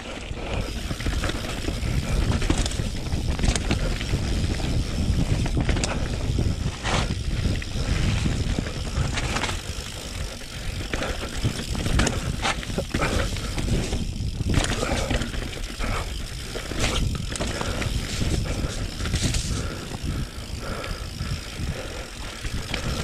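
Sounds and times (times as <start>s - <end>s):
bike knocks and rattles: 0.1s - 23.0s.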